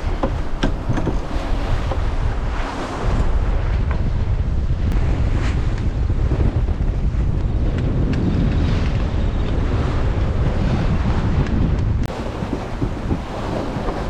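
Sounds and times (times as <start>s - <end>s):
waves washing past boat: 0.0s - 14.0s
wind buffeting microphone: 0.0s - 14.0s.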